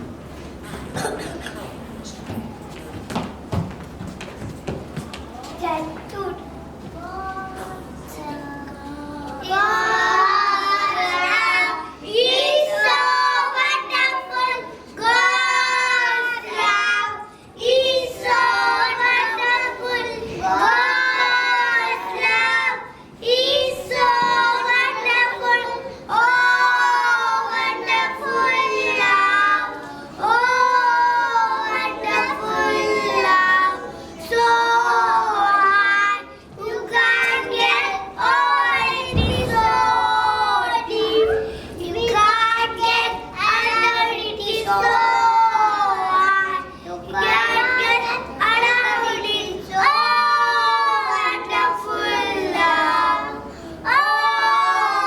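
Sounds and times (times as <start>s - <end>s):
children singing together: 6.6s - 55.0s.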